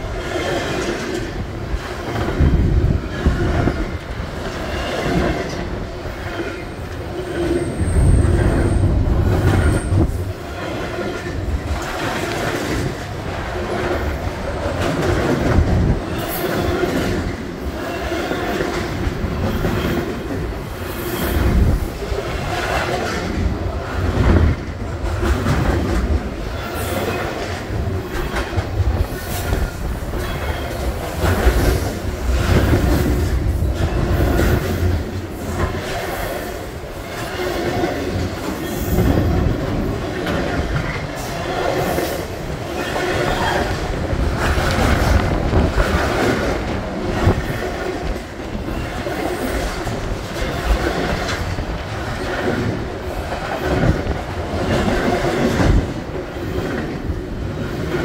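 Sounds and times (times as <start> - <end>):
train cars rumbling: 0.0 - 58.0
wheels clacking over rail joints: 0.0 - 58.0.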